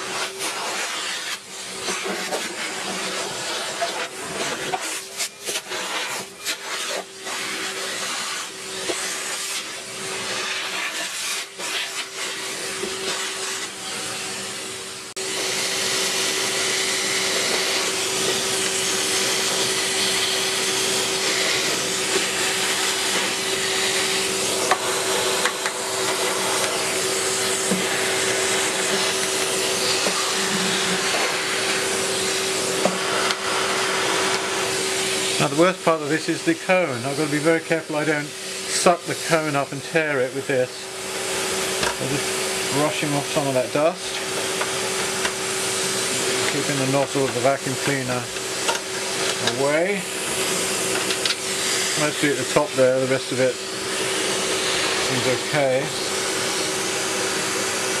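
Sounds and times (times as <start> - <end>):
vacuum nozzle scraping and rustling: 0.0 - 13.9, 15.3 - 57.9
vacuum cleaner motor whine: 0.0 - 58.0.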